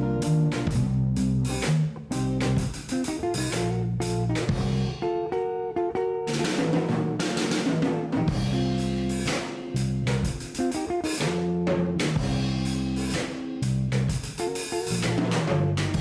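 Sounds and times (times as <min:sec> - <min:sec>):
instrumental music with guitar and drums: 0:00.0 - 0:16.0.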